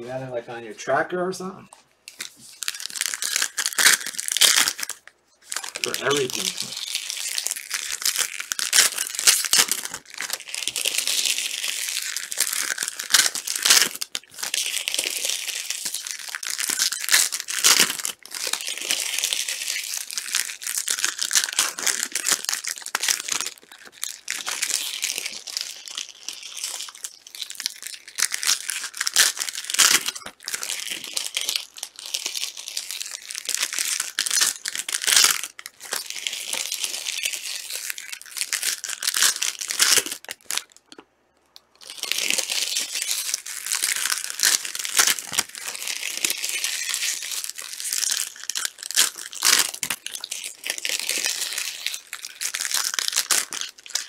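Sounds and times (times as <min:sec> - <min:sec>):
plastic wrappers crinkling and tearing: 0:01.7 - 0:54.0.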